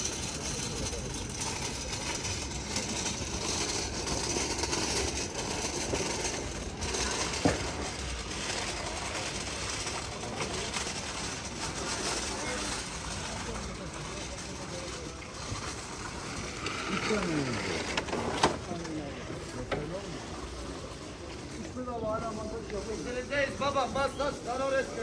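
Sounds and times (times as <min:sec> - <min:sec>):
street market hubbub: 0:00.0 - 0:25.0.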